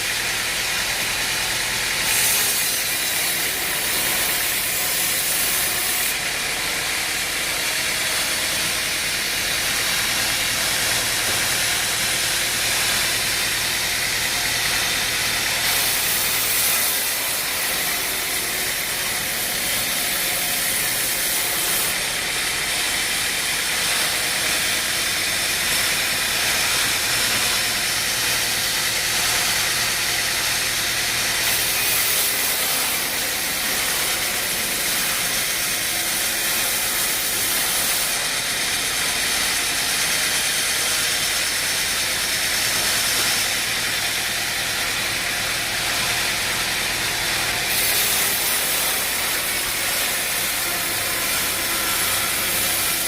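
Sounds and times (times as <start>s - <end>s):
woodworking machine hum and hiss: 0.0s - 53.0s.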